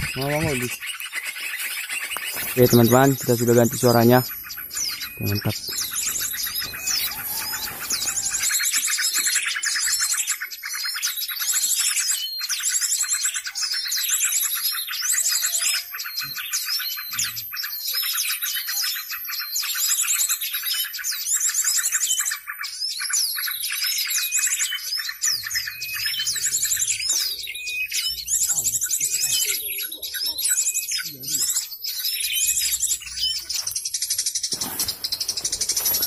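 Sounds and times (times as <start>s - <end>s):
recorded bird song trilling: 0.0s - 36.0s.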